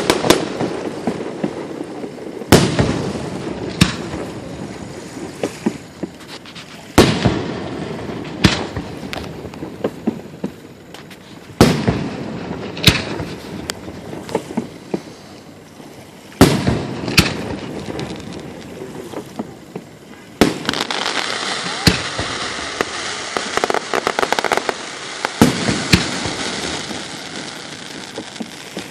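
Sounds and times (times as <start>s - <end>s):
firework booms with rumbling echo: 0.0s - 6.2s, 6.9s - 10.9s, 11.5s - 15.1s, 16.4s - 28.9s
firework pops and crackles: 0.0s - 15.7s, 16.3s - 28.9s.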